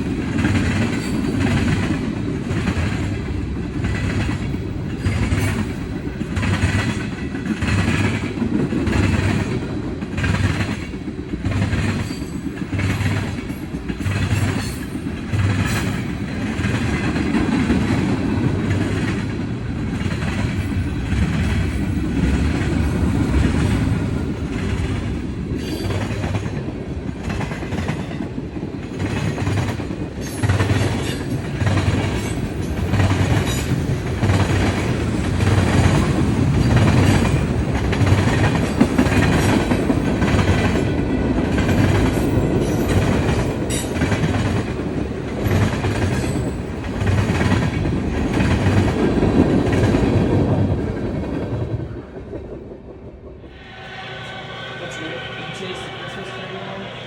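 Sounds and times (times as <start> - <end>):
wheels clicking over rail joints: 0.0 - 53.4
railroad cars rumbling: 0.0 - 57.0.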